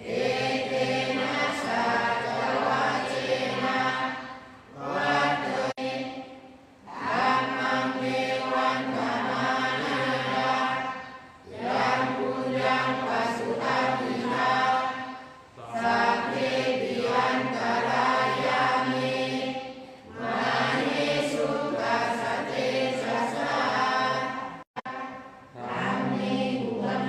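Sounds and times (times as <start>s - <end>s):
group of voices chanting: 0.0s - 27.0s.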